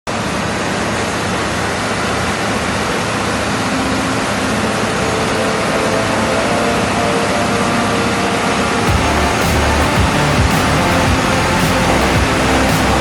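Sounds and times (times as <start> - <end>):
heavy machinery engine drone: 0.2 - 13.0.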